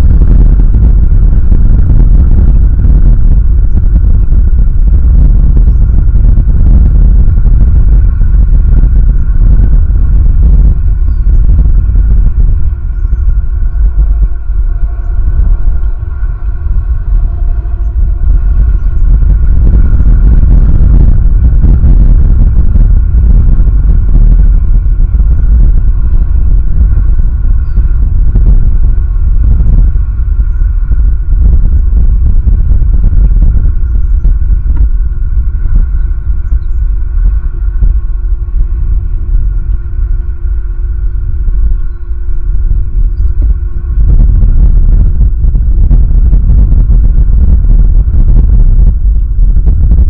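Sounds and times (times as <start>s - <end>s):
faint steady tones: 0.0s - 50.0s
wind buffeting microphone: 0.0s - 50.0s.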